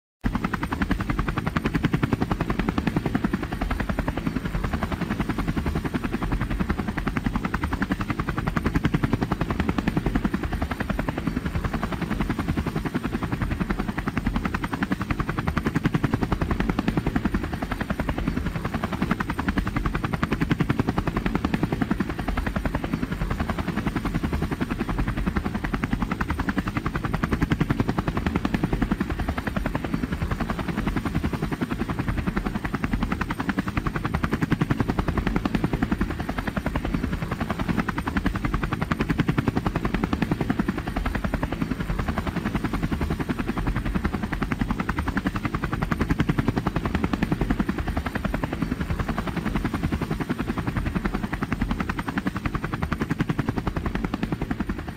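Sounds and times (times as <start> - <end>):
helicopter engine rumble: 0.2 - 54.9
helicopter rotor chopping: 0.2 - 54.9.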